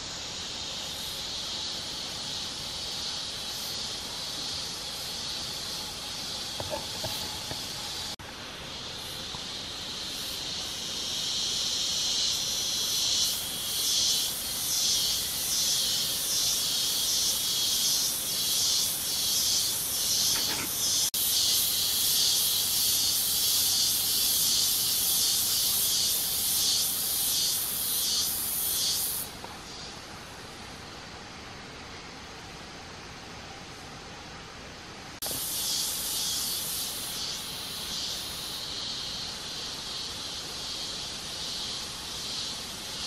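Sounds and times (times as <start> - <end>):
insect chorus pulsing hiss: 0.0 - 43.0.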